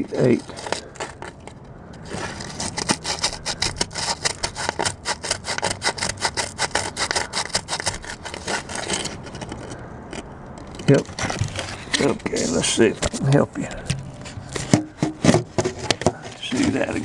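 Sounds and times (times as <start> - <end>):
sandpaper scraping on metal: 0.0 - 17.0.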